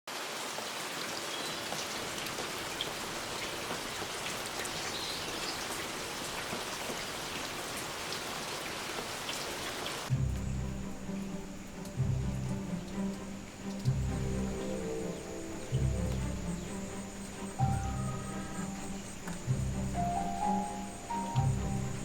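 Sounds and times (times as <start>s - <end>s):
raindrops ticking on surfaces: 0.1s - 22.0s
steady rain falling: 0.1s - 22.0s.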